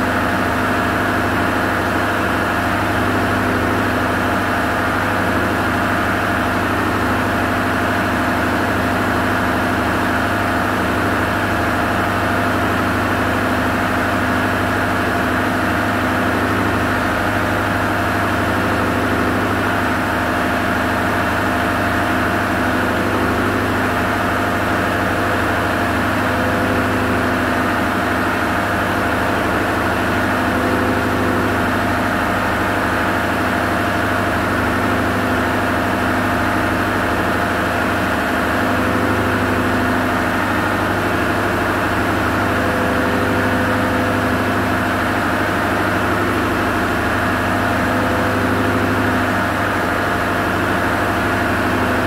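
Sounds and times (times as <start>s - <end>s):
diesel machinery droning: 2.4s - 52.0s.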